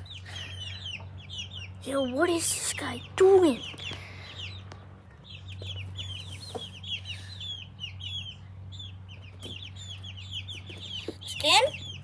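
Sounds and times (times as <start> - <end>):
birds peeping rapidly: 0.0 - 12.0.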